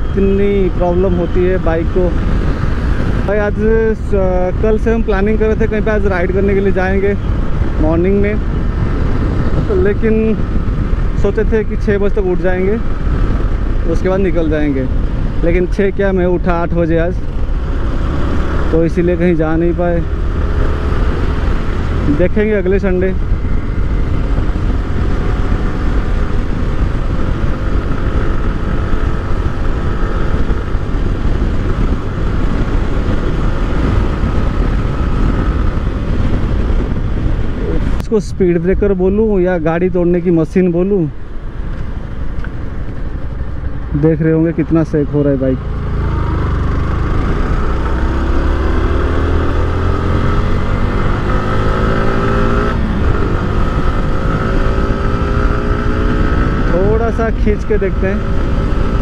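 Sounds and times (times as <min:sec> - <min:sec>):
motorcycle engine running: 0:00.0 - 0:38.0, 0:40.9 - 0:59.0
wind rush over microphone: 0:00.0 - 0:59.0.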